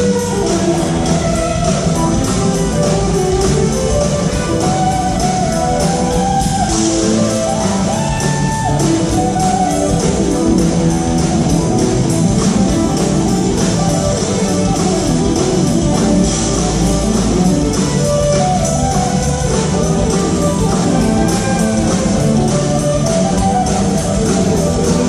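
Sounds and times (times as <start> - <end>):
bass guitar: 0.0 - 25.0
drums with cymbals: 0.0 - 25.0
electric guitar lead lines: 0.0 - 25.0.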